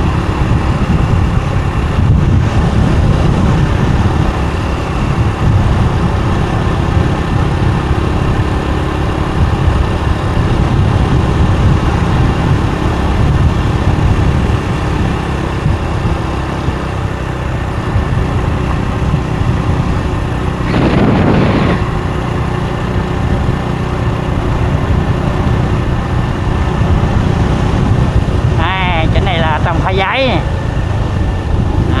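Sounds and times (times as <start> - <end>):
motorbike engine rumble: 0.0 - 32.0
road noise: 0.0 - 32.0.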